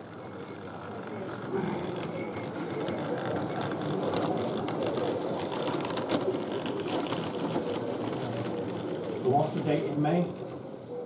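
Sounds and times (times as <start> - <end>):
model train running: 0.0 - 10.5
hubbub of exhibition hall: 0.0 - 11.0.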